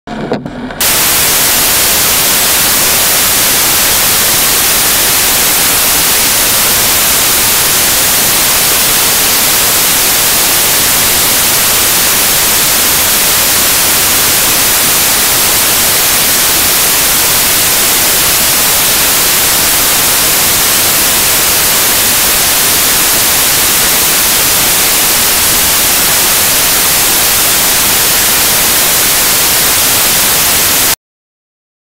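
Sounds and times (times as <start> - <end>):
steady static hiss: 0.8 - 31.0.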